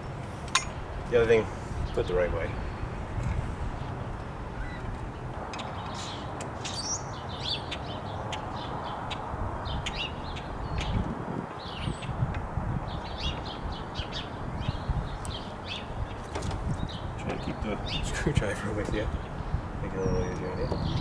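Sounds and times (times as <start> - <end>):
small birds chirping: 0.0 - 21.0
wind rumble on microphone: 0.0 - 21.0.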